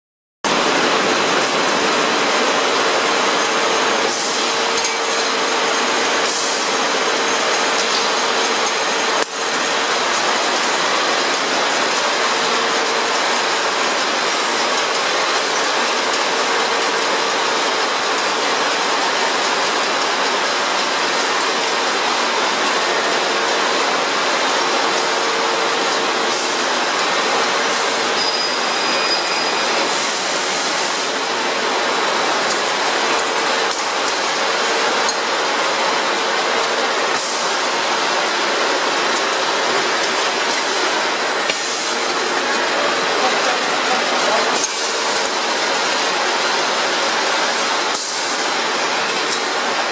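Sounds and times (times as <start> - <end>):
loud production line machinery: 0.5 - 49.9.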